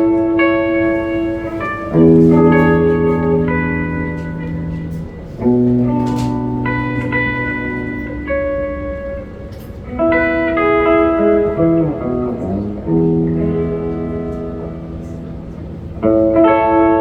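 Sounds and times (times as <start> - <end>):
electric guitar chords: 0.0 - 17.0
sliding bending guitar notes: 0.0 - 17.0.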